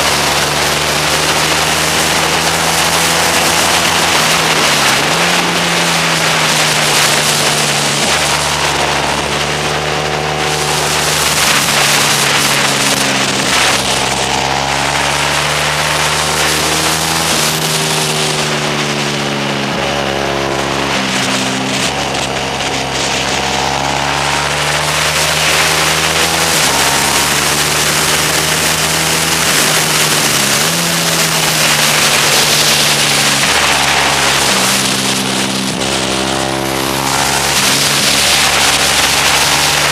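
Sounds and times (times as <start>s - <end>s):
motorcycle engine at speed: 0.0s - 39.9s
wind on microphone: 0.0s - 39.9s.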